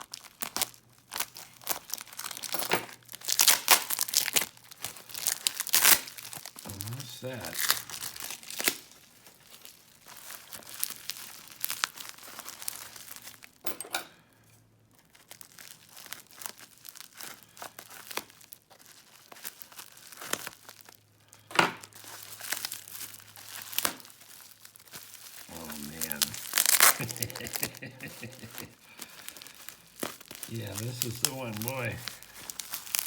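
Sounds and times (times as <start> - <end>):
taped wrapping being torn off: 0.0 - 13.3, 15.2 - 33.0.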